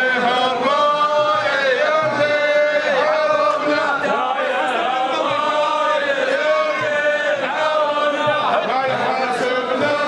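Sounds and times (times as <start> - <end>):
men chanting: 0.0 - 10.0.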